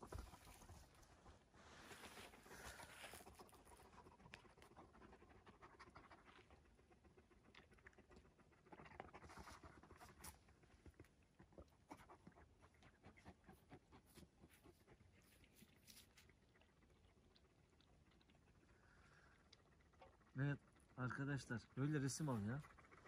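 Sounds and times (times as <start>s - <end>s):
dog panting: 0.0s - 23.0s.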